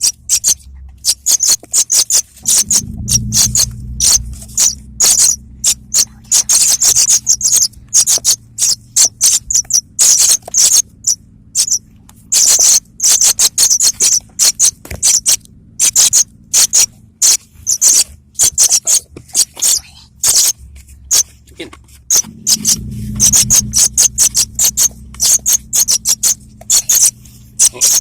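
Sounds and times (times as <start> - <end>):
bird high sharp chirps: 0.0 - 21.4, 22.1 - 28.0
faint low hum: 0.1 - 28.0.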